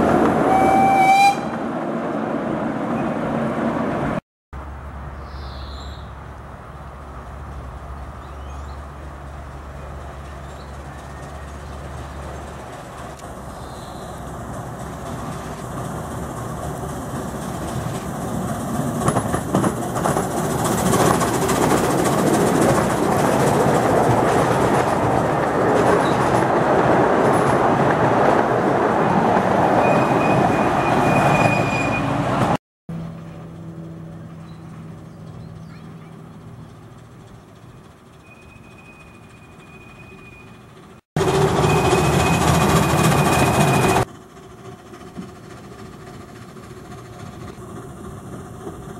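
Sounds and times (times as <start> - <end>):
steam train passing: 0.0 - 5.1, 6.1 - 48.9
train wheels clattering on track: 8.8 - 32.6, 33.2 - 48.9.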